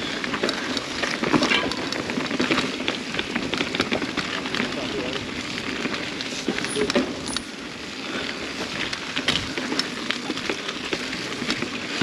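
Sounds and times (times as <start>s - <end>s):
bike clicks and knocks: 0.0s - 12.0s
bike tyres crackling over dirt: 0.0s - 12.0s.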